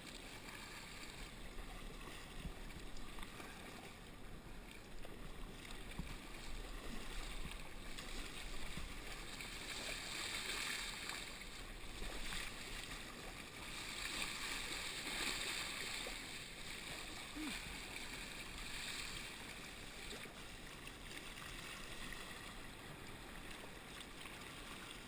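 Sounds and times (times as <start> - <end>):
water splashing around kayak: 0.0 - 25.0.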